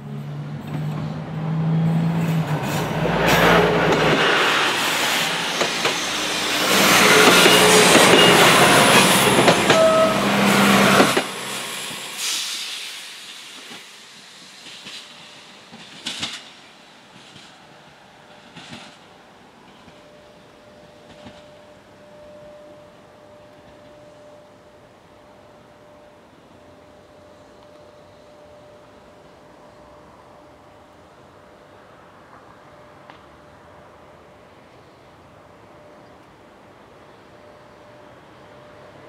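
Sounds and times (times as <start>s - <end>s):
wheels rumbling on rails: 0.0s - 12.4s, 13.5s - 39.0s
railcar engine hum: 0.0s - 39.0s.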